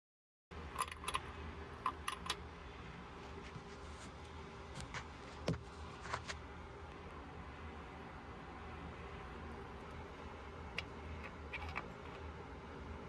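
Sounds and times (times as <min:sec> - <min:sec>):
low steady hum: 0:00.6 - 0:13.0.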